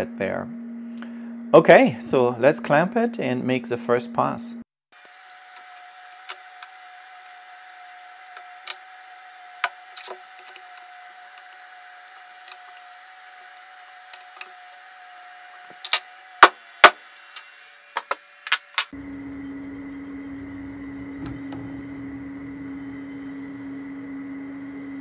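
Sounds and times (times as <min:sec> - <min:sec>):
machine hum: 0:00.0 - 0:18.0, 0:18.9 - 0:25.0.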